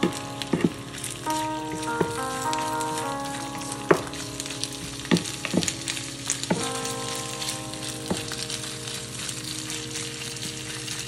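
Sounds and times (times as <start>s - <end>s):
fern stems sizzling in a pan: 0.0s - 11.0s.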